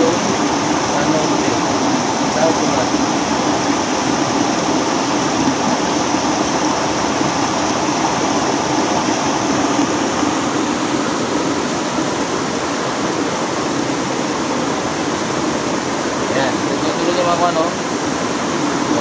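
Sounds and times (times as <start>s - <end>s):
water running over rocks: 0.0s - 19.0s.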